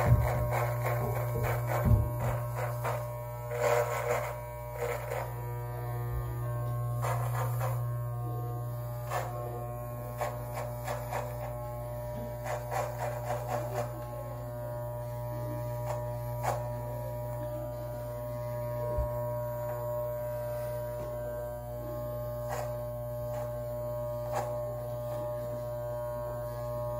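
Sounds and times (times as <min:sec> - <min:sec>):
electric trimmer buzzing: 0:00.0 - 0:26.9.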